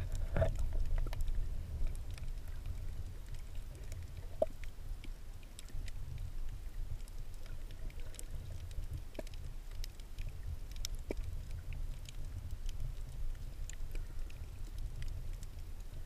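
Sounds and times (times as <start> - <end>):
muffled underwater rumble: 0.0 - 16.0
sharp clicks and crackles: 0.0 - 16.0.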